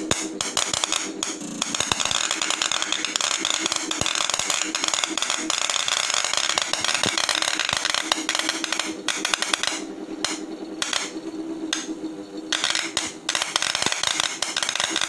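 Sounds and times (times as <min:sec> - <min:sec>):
crackle of electrical discharges: 0:00.0 - 0:15.0
steady low hum: 0:00.0 - 0:15.0.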